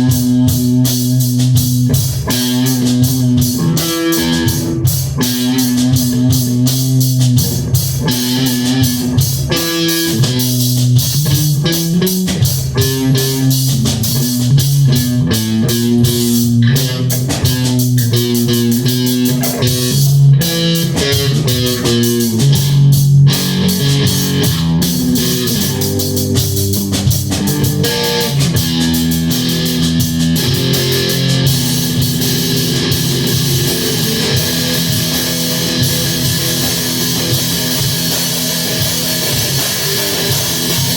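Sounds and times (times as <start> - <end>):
drumming and cymbals: 0.0 - 40.9
rock guitar riff: 0.0 - 40.9.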